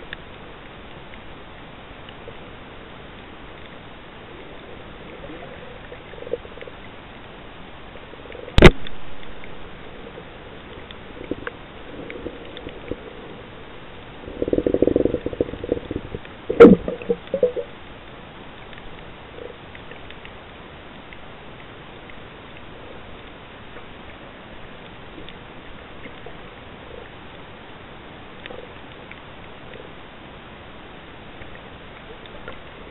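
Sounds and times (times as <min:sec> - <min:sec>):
crackling: 0:00.0 - 0:32.9
muffled underwater hiss: 0:00.0 - 0:32.9.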